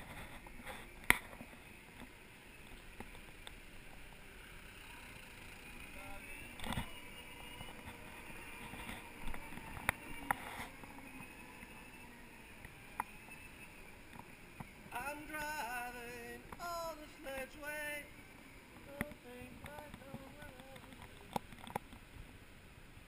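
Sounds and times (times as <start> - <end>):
faint high whine: 0.0 - 23.0
low road and motor noise: 0.0 - 23.0.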